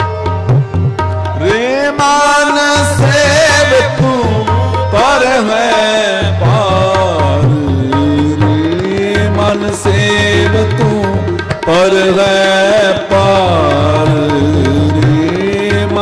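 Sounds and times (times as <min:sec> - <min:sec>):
harmonium: 0:00.0 - 0:16.0
tabla beat: 0:00.0 - 0:16.0
person singing ornamented melody: 0:01.4 - 0:16.0.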